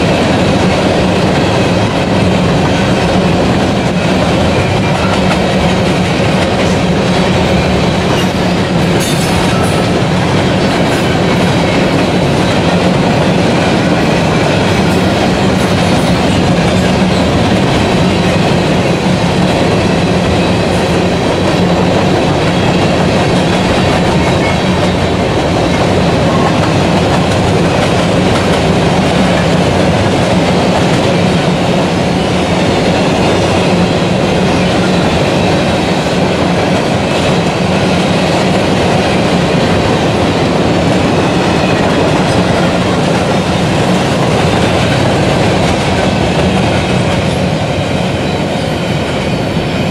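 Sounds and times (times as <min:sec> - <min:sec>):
steel wheels rolling on rails: 0:00.0 - 0:49.9.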